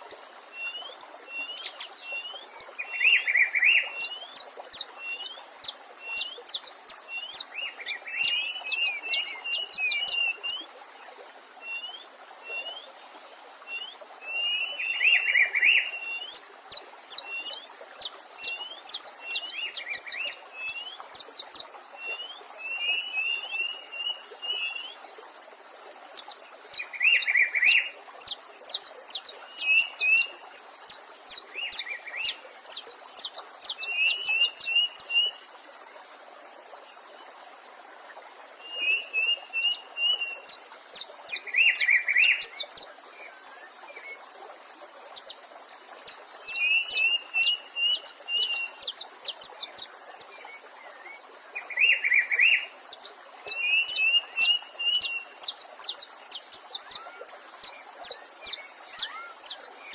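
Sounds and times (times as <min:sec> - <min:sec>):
songbird singing with trills: 0:00.0 - 0:10.6, 0:13.7 - 0:25.0, 0:26.2 - 0:35.4, 0:38.6 - 0:44.2, 0:45.1 - 0:59.9
faint rush of a stream: 0:00.0 - 0:59.9.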